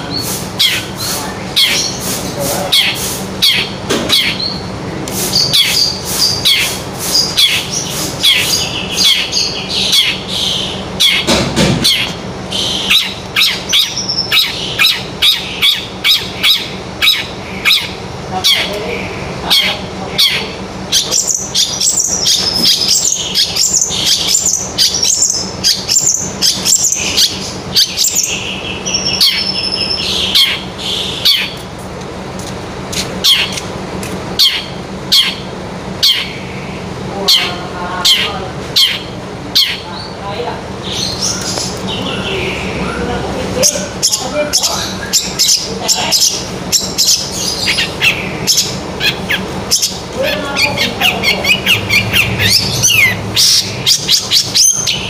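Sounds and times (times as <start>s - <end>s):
shrike singing: 0.0s - 31.8s, 34.4s - 55.0s.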